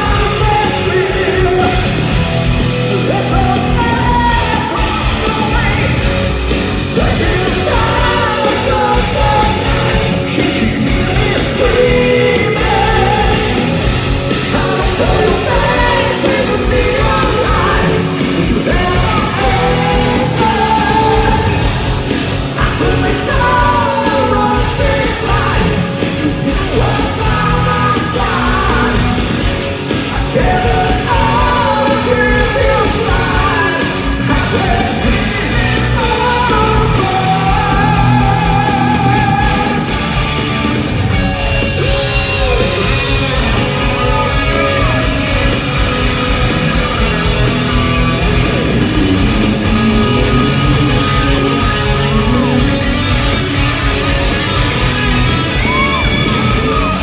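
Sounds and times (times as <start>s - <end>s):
man singing: 0.0s - 2.2s, 2.8s - 21.8s, 22.5s - 29.4s, 30.1s - 40.0s, 41.2s - 45.8s, 48.7s - 53.2s
live metal band playing: 0.0s - 57.0s.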